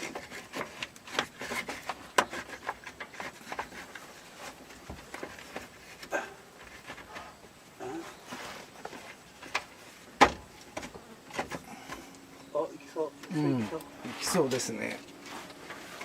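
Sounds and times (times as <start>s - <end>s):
light knocks clicks and scrapes: 0.0s - 12.2s, 13.2s - 16.0s.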